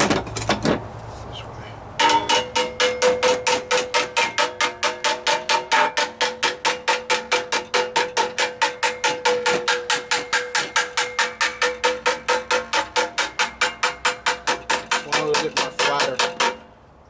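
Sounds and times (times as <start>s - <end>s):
hammer blows on sheet metal: 2.0s - 16.7s.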